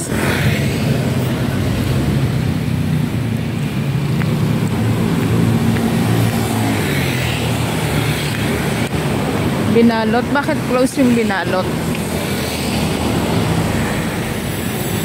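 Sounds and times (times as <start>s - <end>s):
cars and motorcycles passing: 0.0s - 15.0s
road traffic rumble: 0.0s - 15.0s.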